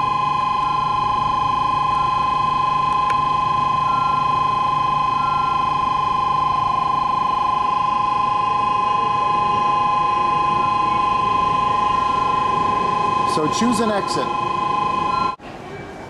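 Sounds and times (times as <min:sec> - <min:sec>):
two-tone electronic ringing: 0:00.0 - 0:15.4.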